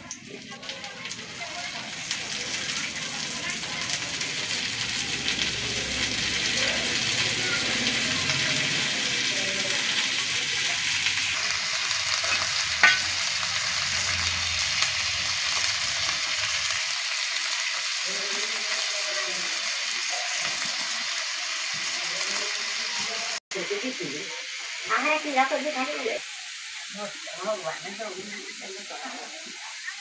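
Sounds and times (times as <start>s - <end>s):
vegetables sizzling in hot oil: 0.0s - 30.0s.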